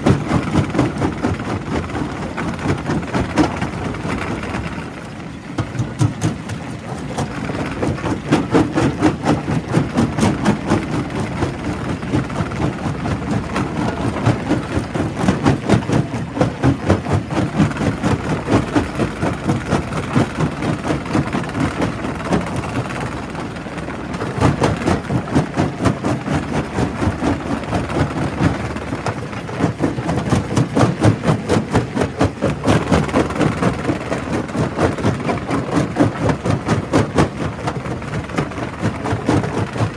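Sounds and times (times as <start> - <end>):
low machine rumble: 0.0 - 39.9
rock crusher knocking and clattering: 0.0 - 39.9.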